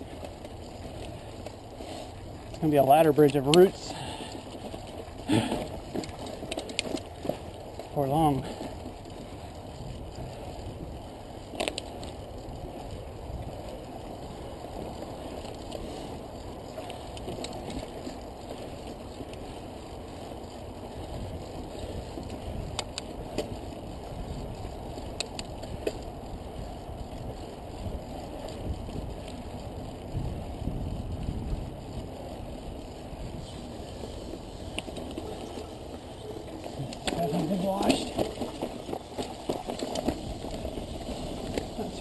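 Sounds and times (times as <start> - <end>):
bike clicks and rattles: 0.0 - 42.0
bike tyres on dirt and rock: 0.0 - 42.0.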